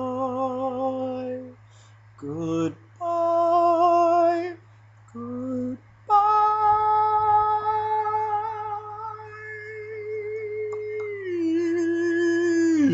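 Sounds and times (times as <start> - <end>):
man singing a cappella: 0.0 - 12.9.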